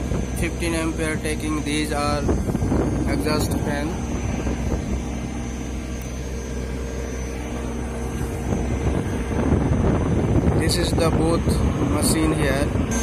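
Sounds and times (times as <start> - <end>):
chiller fans and compressors droning: 0.0 - 13.0.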